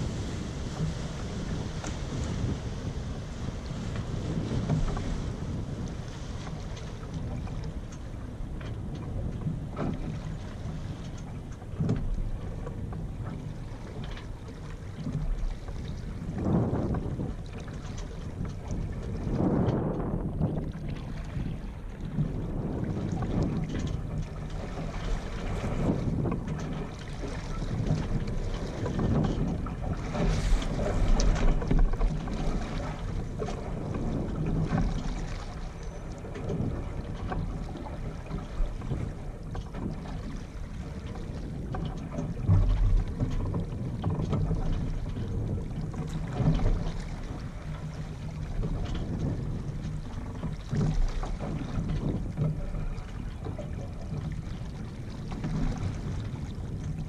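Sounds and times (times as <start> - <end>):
water washing along hull: 0.0 - 57.0
wind buffeting microphone: 0.0 - 57.0.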